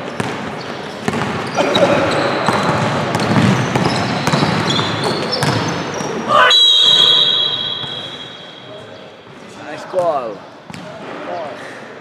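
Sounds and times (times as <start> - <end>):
sneaker squeaks: 0.0 - 11.9
players' voices echoing: 0.0 - 12.0.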